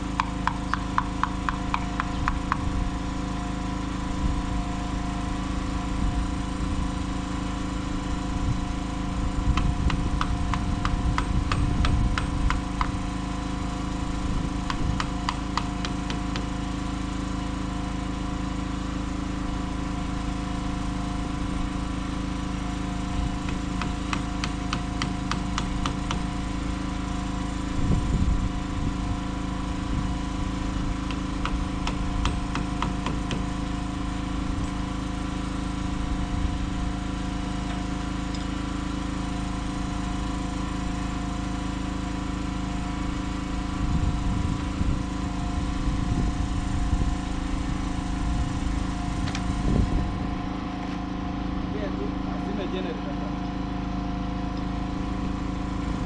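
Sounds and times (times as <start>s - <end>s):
motor droning: 0.0s - 56.0s.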